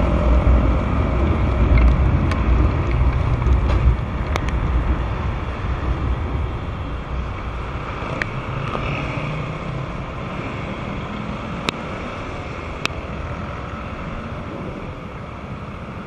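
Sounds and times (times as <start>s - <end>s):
scooter engine and road noise: 0.0s - 16.0s
wind rushing over microphone: 0.0s - 16.0s.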